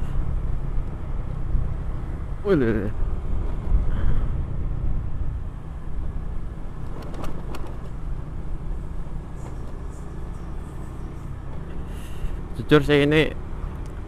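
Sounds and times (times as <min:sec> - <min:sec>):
scooter engine rumbling: 0:00.0 - 0:12.6.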